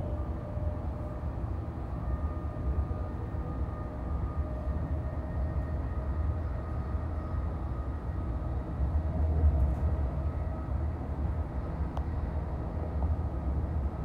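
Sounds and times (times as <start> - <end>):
faint whining tones: 0.0 - 14.0
wheels rumbling on rail: 0.0 - 14.0.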